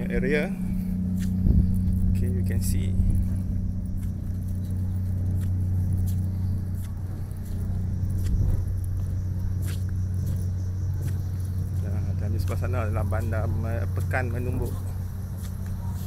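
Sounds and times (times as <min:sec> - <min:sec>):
ferry machinery droning: 0:00.0 - 0:16.0.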